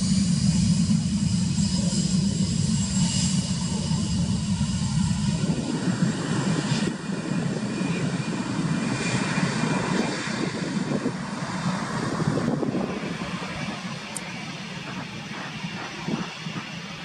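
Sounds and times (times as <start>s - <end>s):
airliner taxiing past: 0.0s - 17.0s
jet engine noise: 0.0s - 17.0s.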